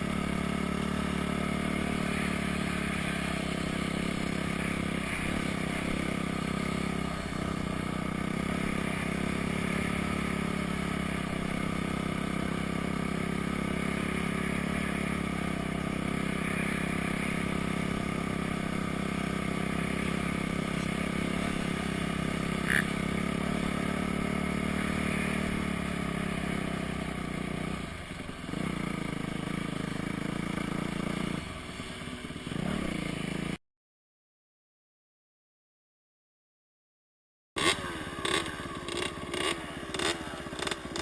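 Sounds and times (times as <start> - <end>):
dirt bike engine running: 0.0 - 33.6, 37.6 - 41.0.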